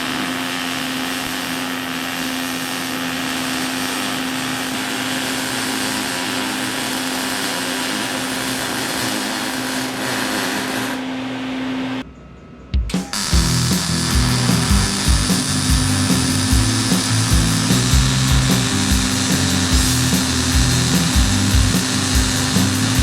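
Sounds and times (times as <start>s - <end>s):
power tool running: 0.0s - 12.0s, 13.0s - 23.0s.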